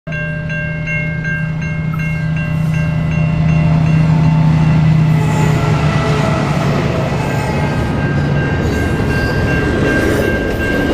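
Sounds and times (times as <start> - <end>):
diesel locomotive engine drone: 0.1 - 10.9
level-crossing warning bell ringing: 0.1 - 10.9.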